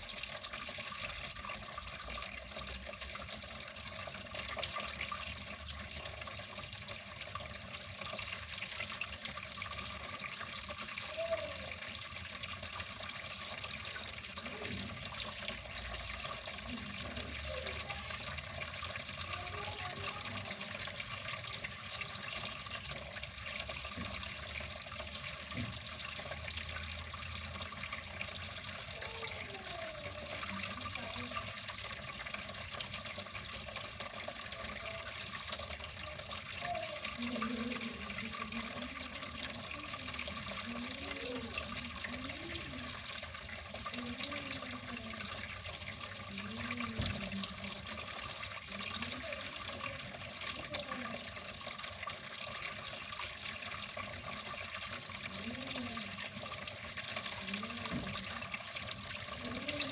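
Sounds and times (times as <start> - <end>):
water rushing like a tap: 0.0 - 59.9.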